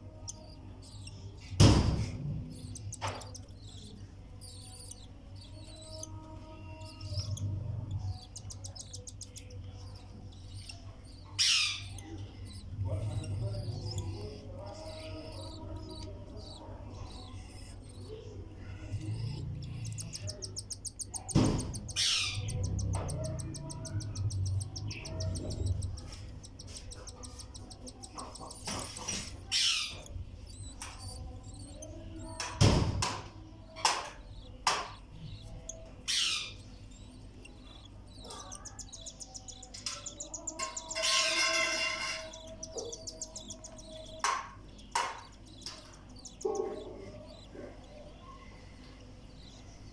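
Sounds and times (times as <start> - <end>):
chicks rasping begging calls: 0.0 - 49.9.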